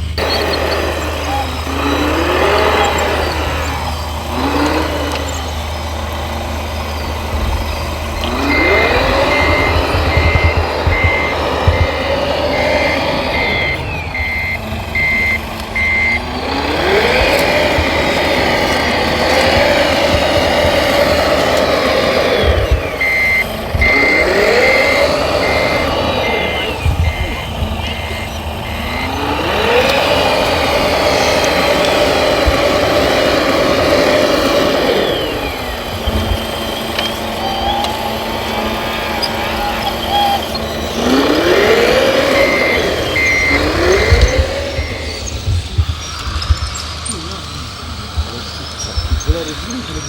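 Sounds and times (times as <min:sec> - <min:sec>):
electronic reversing beeper: 0:00.0 - 0:50.0
model truck motor whine: 0:00.0 - 0:50.0.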